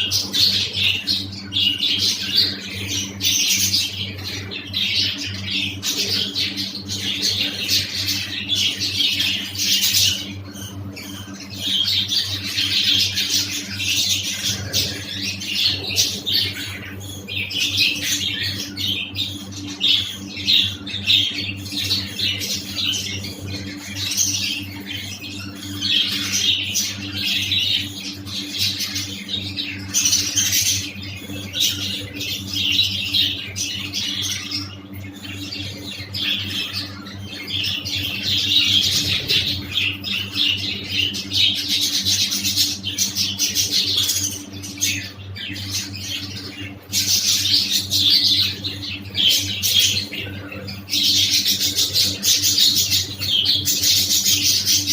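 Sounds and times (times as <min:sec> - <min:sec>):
budgerigars chattering and chirping: 0:00.0 - 0:54.9
steady low hum: 0:00.0 - 0:54.9.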